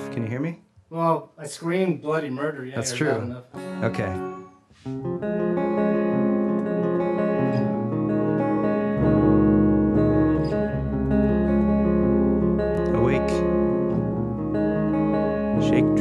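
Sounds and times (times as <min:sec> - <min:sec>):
clean electric guitar chords: 0:03.1 - 0:16.0.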